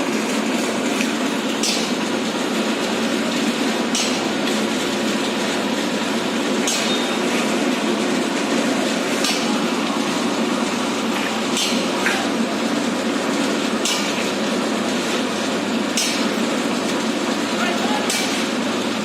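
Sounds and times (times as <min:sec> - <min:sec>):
steady rushing background noise: 0:00.0 - 0:19.0.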